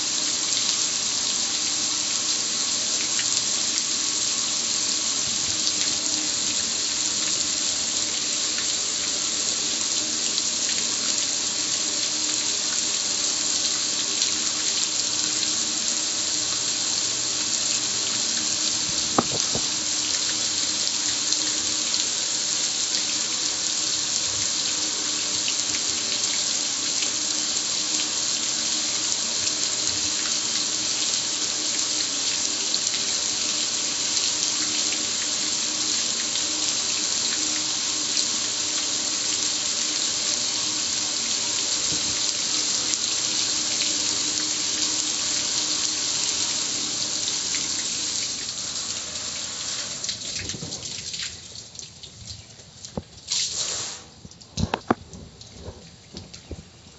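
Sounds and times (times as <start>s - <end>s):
water spraying on metal: 0.0s - 51.4s, 53.3s - 54.8s.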